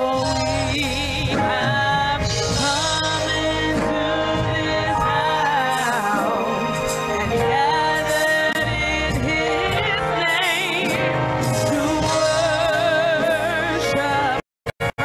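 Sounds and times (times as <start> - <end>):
woman singing gospel: 0.0 - 14.4
musical accompaniment: 0.0 - 15.0.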